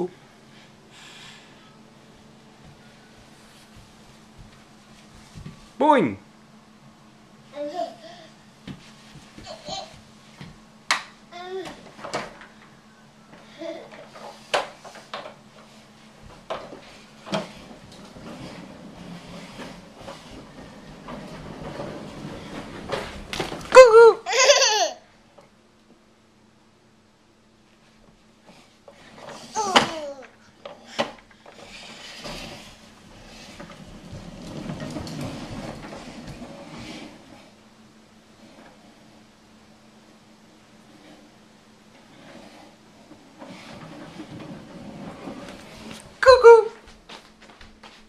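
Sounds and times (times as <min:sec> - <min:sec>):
plastic wheels rolling on wood floor: 0:02.1 - 0:05.8, 0:08.6 - 0:25.5, 0:27.6 - 0:48.0.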